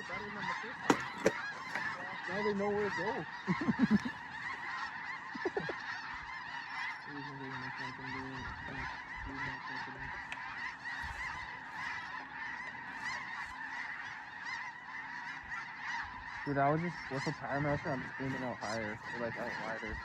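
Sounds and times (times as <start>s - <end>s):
flock of geese calling: 0.0s - 20.0s.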